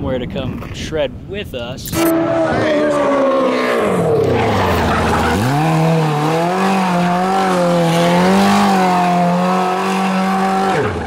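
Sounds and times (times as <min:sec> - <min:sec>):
kart engine revving: 0:01.9 - 0:11.0.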